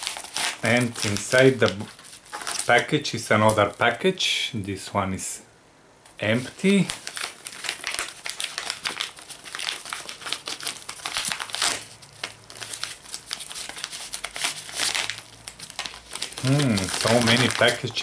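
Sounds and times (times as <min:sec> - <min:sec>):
paper envelopes crinkling: 0:00.0 - 0:04.0, 0:06.2 - 0:18.0.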